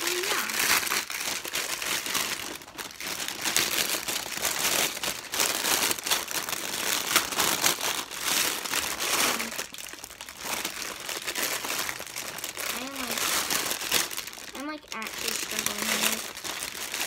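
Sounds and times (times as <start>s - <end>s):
cellophane crinkling: 0.0s - 17.0s.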